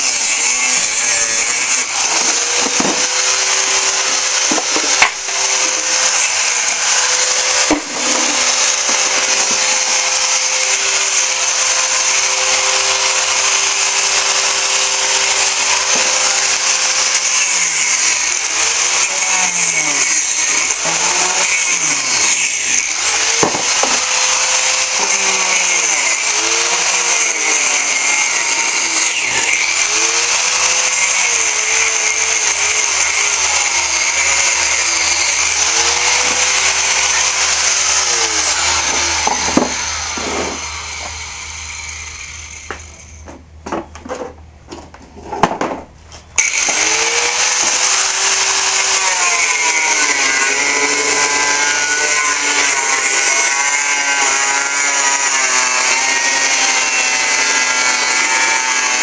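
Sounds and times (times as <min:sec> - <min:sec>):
angle grinder cutting plastic: 0:00.0 - 0:44.4, 0:45.2 - 0:59.0.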